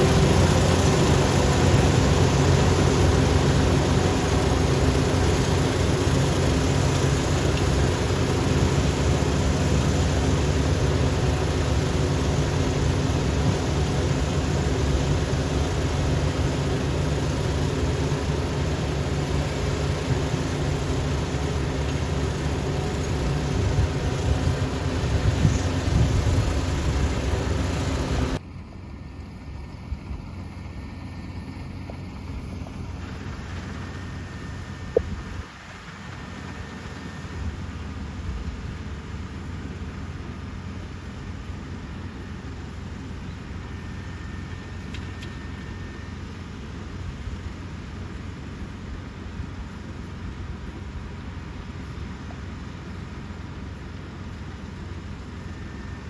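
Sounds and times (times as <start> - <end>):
diesel engine running: 0.0 - 56.0
harvester machinery noise: 0.0 - 56.0.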